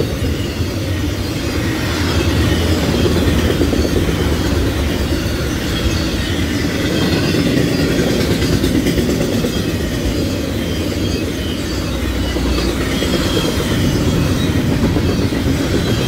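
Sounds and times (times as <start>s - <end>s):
freight cars rolling on rails: 0.0s - 16.0s.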